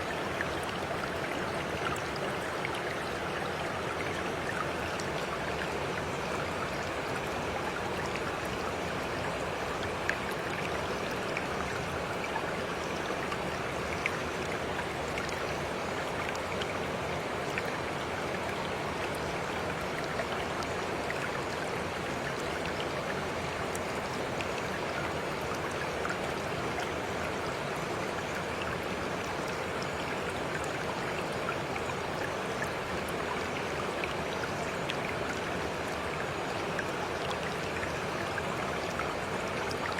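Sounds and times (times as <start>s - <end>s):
flowing water: 0.0s - 39.9s
water drips and splashes: 0.0s - 39.9s.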